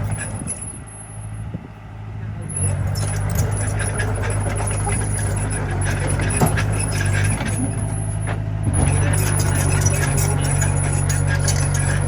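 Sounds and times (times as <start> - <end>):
bulldozer engine running: 0.0 - 12.0.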